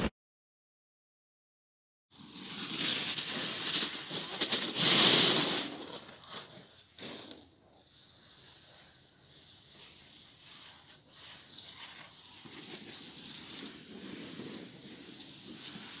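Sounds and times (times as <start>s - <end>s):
skis scraping on snow: 2.1s - 16.0s.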